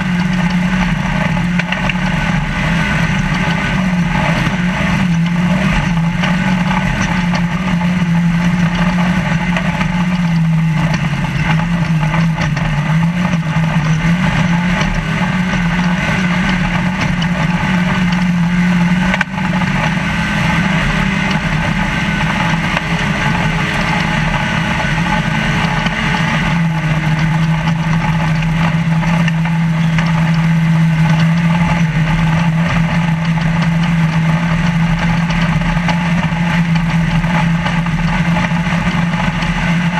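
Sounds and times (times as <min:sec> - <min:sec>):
cab rattle: 0:00.0 - 0:39.9
road noise: 0:00.0 - 0:39.9
truck engine running hard: 0:00.0 - 0:39.9.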